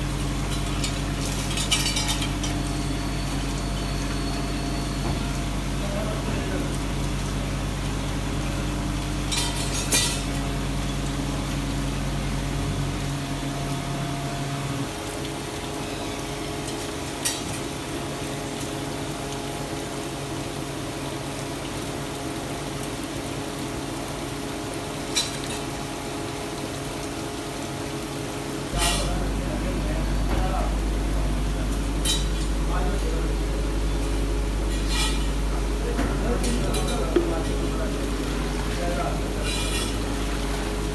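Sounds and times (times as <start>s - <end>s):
workshop machinery humming: 0.0s - 19.8s, 25.7s - 40.9s.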